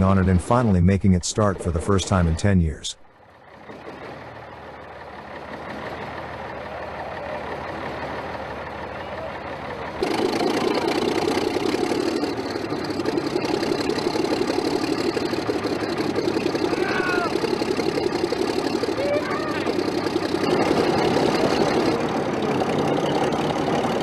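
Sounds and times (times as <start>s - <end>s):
diesel locomotive engine knocking: 0.0s - 24.0s.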